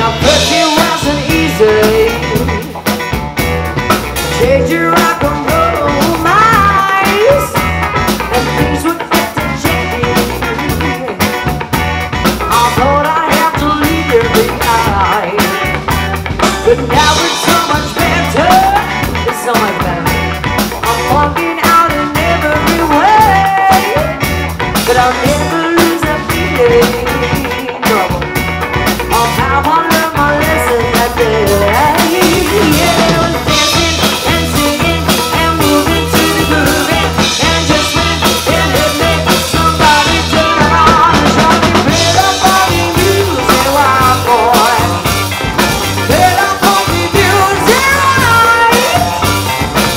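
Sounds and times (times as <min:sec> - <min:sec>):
woman singing: 0:00.0 - 0:02.8, 0:04.3 - 0:11.6, 0:12.5 - 0:45.2, 0:46.0 - 0:49.4
bass guitar: 0:00.0 - 0:49.9
drum kit: 0:00.0 - 0:49.9
electric guitar: 0:00.0 - 0:49.9.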